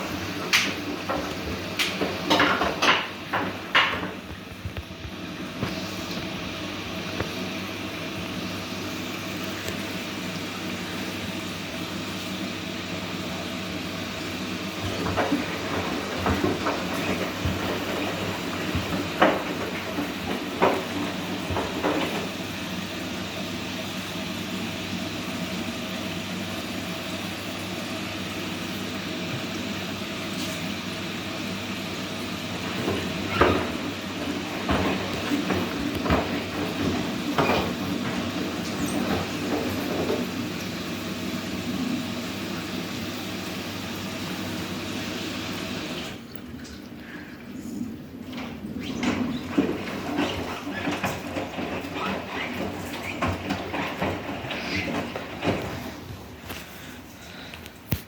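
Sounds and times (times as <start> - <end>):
washing machine humming: 0.0 - 58.0
washing machine knocking and clunking: 0.0 - 58.0.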